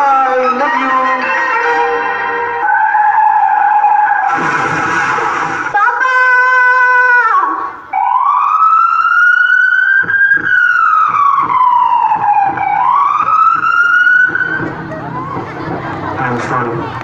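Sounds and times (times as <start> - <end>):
siren over loudspeakers: 0.0 - 15.7.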